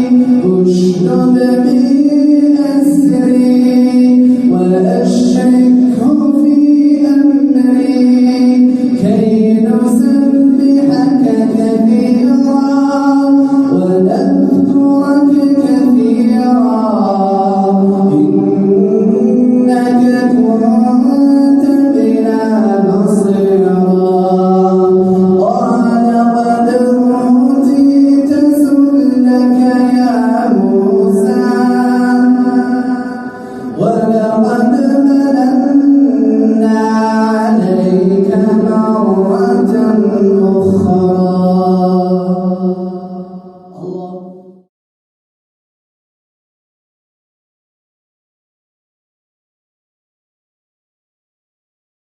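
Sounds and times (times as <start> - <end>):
man reciting melodically: 0.0 - 44.7.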